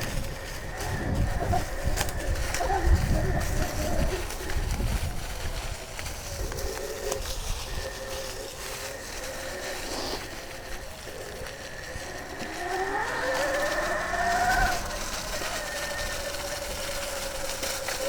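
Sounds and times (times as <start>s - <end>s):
electric motorcycle motor whining: 0.0s - 18.0s.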